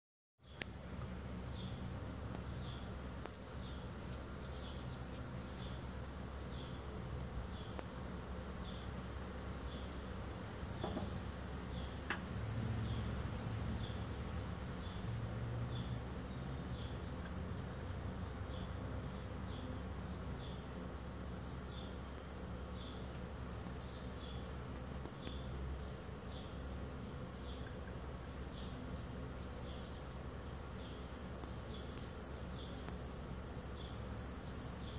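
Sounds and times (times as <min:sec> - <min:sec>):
insect chirps: 0:00.4 - 0:34.9
insects droning: 0:00.4 - 0:34.9.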